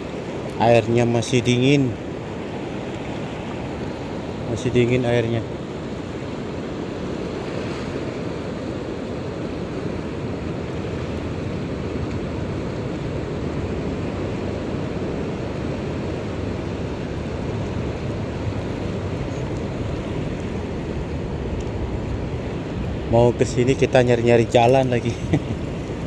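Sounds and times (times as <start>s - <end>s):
sea surf washing over rocks: 0.0s - 26.0s
wind on microphone: 2.0s - 26.0s.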